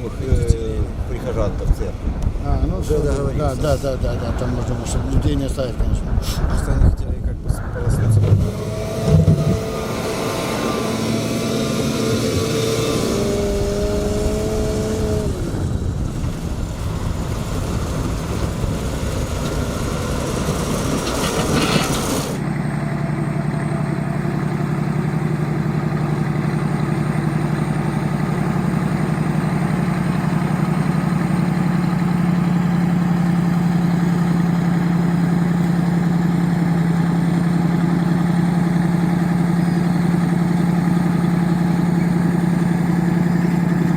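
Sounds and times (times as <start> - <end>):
diesel engine idling: 0.0 - 43.9
tractor engine with whine: 0.0 - 43.9.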